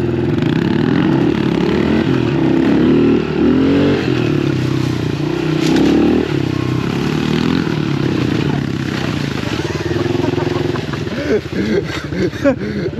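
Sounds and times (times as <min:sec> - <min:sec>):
small motorbike engines revving: 0:00.0 - 0:12.9.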